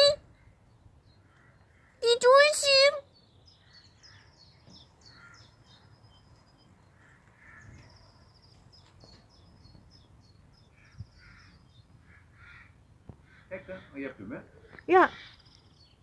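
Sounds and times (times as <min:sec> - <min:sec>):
lower bird calls: 0:00.0 - 0:16.0
small birds chirping: 0:00.0 - 0:16.0.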